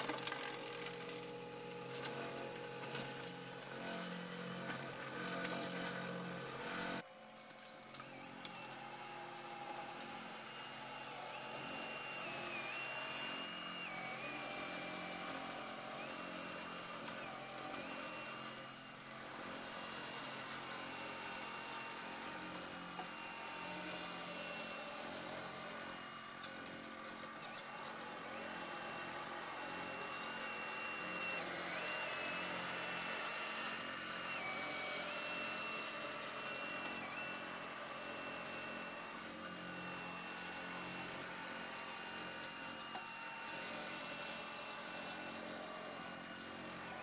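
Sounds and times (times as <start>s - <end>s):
toy motor hum and whine: 0.0s - 47.0s.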